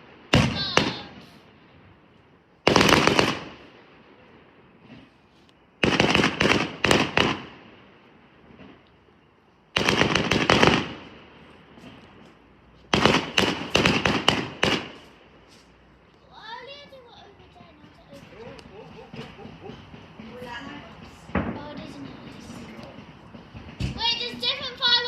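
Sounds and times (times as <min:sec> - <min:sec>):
fireworks cracking: 0:00.0 - 0:25.0.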